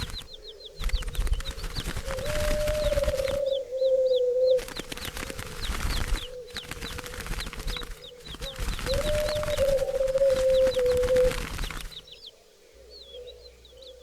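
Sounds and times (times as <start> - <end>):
wings flapping: 0.0 - 3.6, 4.4 - 12.2
quick high bird chirps: 0.0 - 12.3
low bird coo: 0.0 - 14.0.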